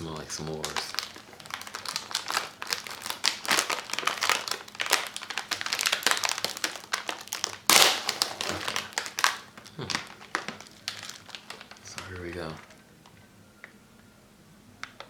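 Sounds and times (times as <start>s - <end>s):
plastic package crinkling: 0.0s - 13.3s.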